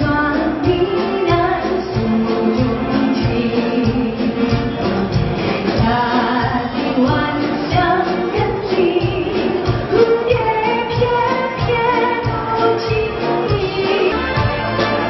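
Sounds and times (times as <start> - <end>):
woman singing pop song: 0.0 - 4.8, 5.8 - 14.6
backing track with steady beat: 0.0 - 15.0.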